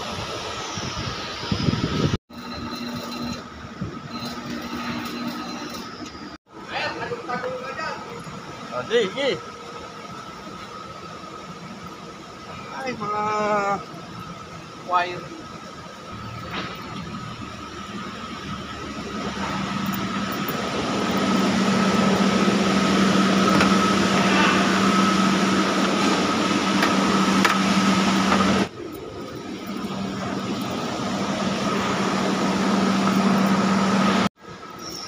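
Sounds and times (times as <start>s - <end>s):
factory machinery humming and whining: 0.0s - 35.0s.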